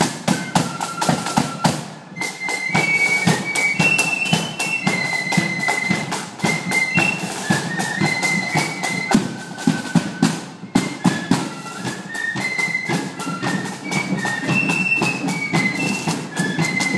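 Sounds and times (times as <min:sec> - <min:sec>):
drums beating march time: 0:00.0 - 0:16.9
flute band playing a melody: 0:00.0 - 0:16.9.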